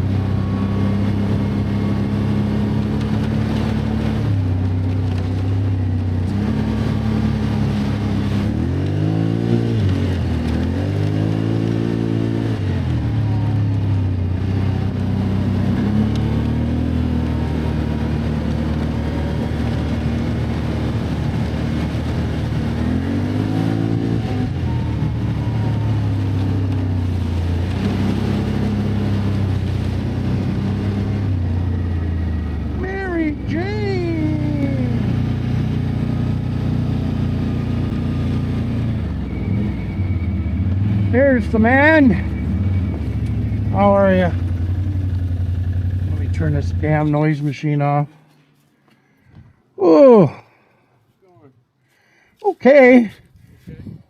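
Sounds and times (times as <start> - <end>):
atv engine revving: 0.0 - 48.5.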